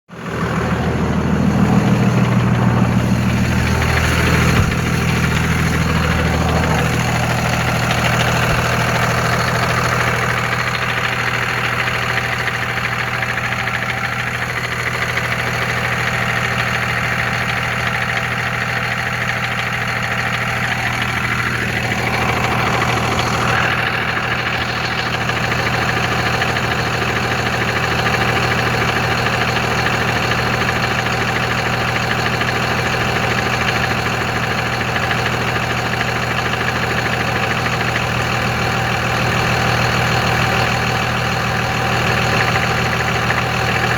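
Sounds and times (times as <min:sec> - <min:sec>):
diesel engine idling: 0:00.1 - 0:43.9
engine rattle: 0:00.1 - 0:43.9.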